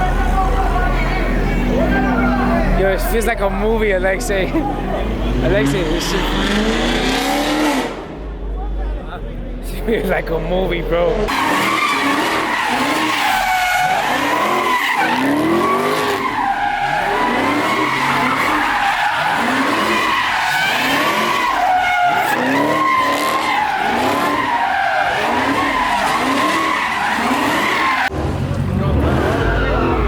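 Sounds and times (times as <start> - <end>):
car tyres squealing: 0.0 - 8.7, 9.4 - 30.0
car engine revving: 0.0 - 30.0.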